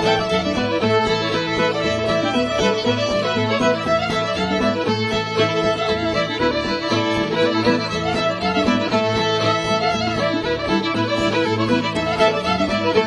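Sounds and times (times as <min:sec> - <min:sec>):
string band playing fiddle tune: 0:00.0 - 0:13.0.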